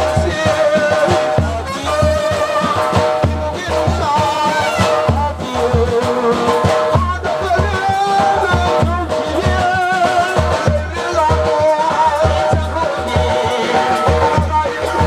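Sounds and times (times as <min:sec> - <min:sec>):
bass drums beating: 0:00.0 - 0:15.0.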